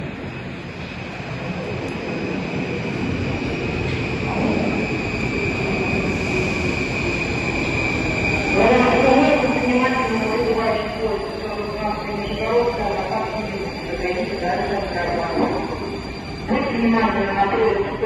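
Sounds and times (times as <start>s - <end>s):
metro train approaching: 0.0s - 18.0s.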